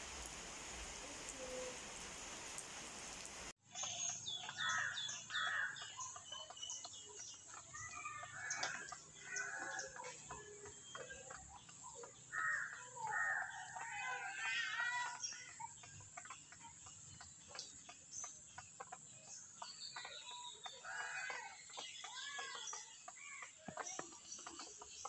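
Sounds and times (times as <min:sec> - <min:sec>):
chickens clucking: 0:03.8 - 0:25.0.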